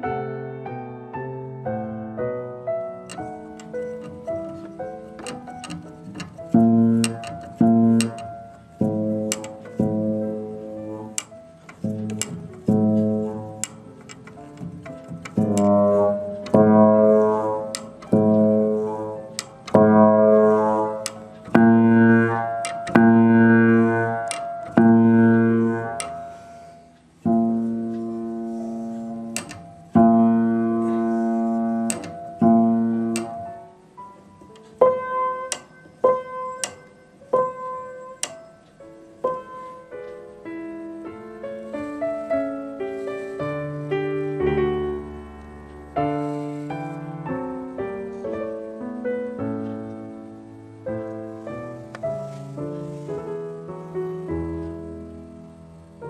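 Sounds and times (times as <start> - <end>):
piano single notes and runs: 0.0 - 56.0
upright piano chords: 0.0 - 56.0.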